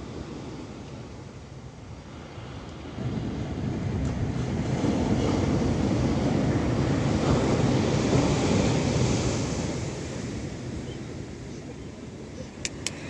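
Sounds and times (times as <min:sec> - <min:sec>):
wave crashing on beach: 0:00.0 - 0:13.0.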